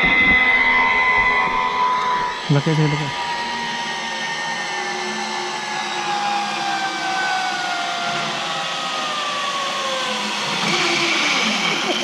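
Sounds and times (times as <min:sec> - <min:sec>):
zipline pulleys whirring on cable: 0:00.0 - 0:12.0.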